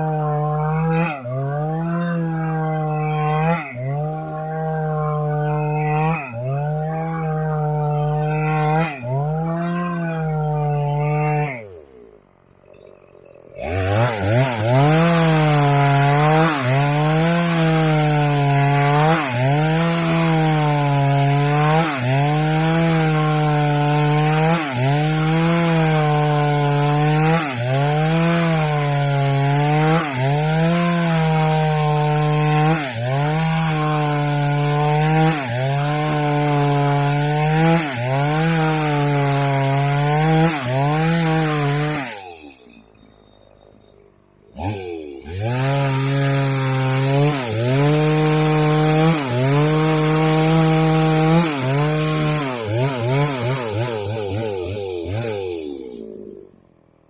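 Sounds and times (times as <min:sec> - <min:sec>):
chainsaw cutting wood: 0:00.0 - 0:42.9, 0:44.5 - 0:56.8.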